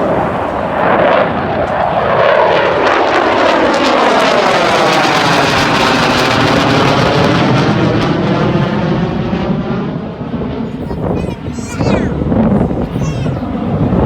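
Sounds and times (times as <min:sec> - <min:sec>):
jet bomber flyby: 0:00.0 - 0:14.0.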